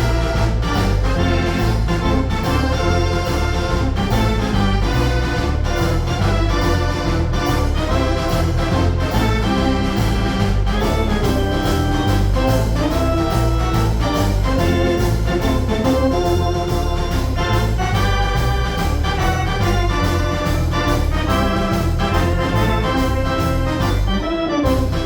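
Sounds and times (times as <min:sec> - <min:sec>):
dance organ playing a tune: 0:00.0 - 0:25.0.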